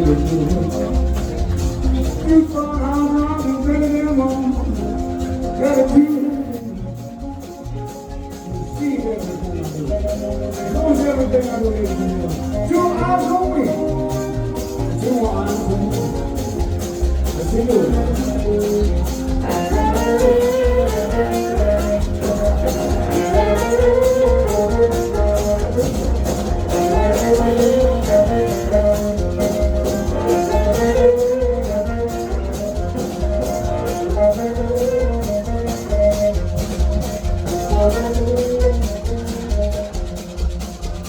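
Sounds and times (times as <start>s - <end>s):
live blues band playing: 0.0s - 41.0s.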